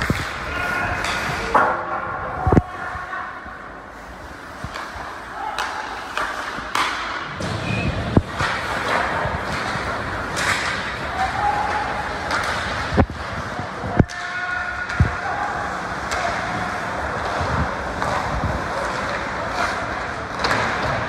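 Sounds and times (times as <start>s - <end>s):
players' voices echoing: 0.0s - 21.0s.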